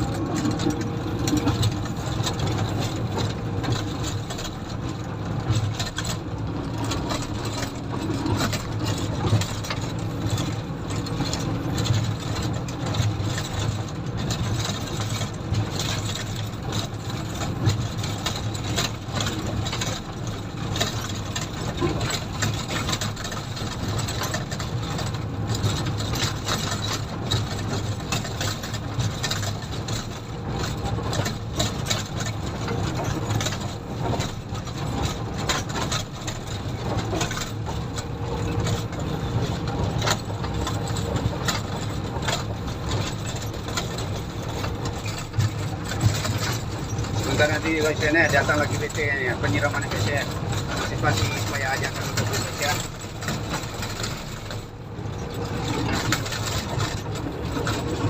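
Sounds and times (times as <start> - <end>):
diesel engine running: 0.0 - 58.0
machine clattering and knocking: 0.0 - 58.0.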